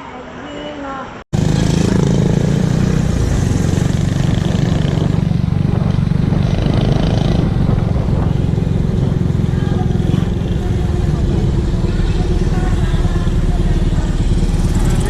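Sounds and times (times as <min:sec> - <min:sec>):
motorcycle engine running: 0:01.4 - 0:15.0.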